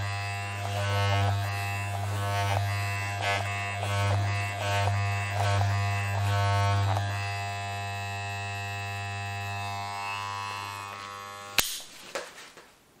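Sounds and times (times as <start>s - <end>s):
electric hair clippers humming: 0.0s - 11.9s.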